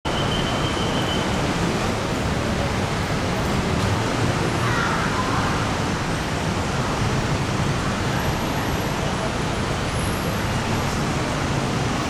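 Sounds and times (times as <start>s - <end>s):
dense city road traffic: 0.0s - 12.0s.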